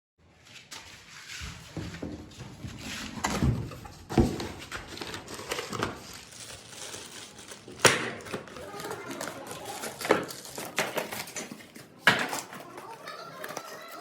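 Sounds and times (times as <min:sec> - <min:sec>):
rustling: 0:00.4 - 0:13.8.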